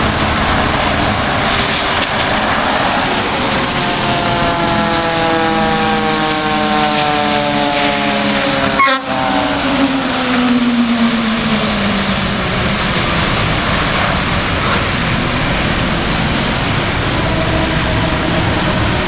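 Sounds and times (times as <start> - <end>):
fire engine siren: 0.0 - 19.0
heavy truck engine: 0.0 - 19.0
tyres on wet pavement: 0.0 - 19.0.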